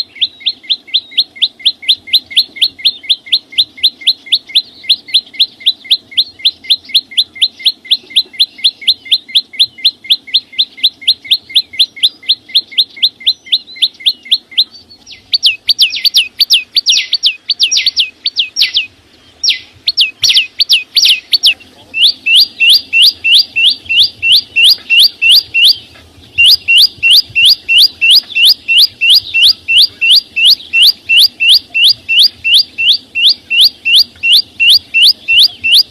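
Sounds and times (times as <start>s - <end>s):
songbird chirping: 0.0s - 35.9s.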